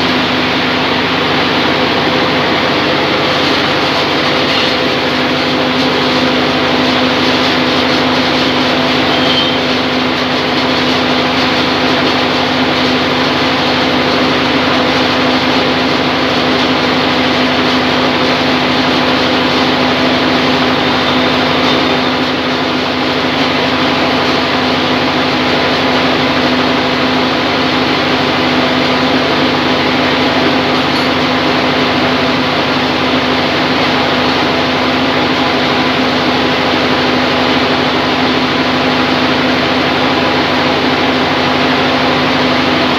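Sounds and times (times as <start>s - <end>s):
sawmill mechanical hum: 0.0s - 42.9s.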